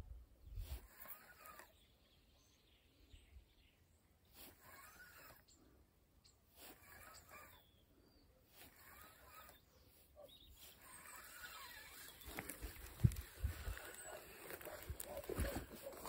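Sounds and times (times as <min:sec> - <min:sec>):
faint birds singing: 0:00.0 - 0:16.0.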